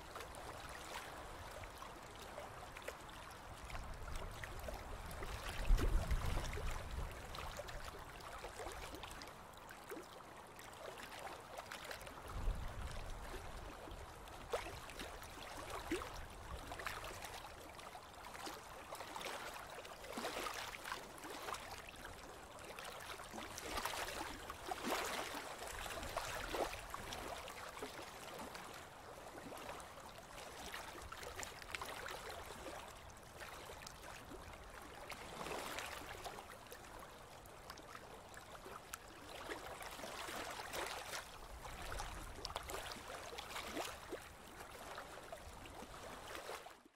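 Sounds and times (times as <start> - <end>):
waves lapping and splashing: 0.0 - 46.9.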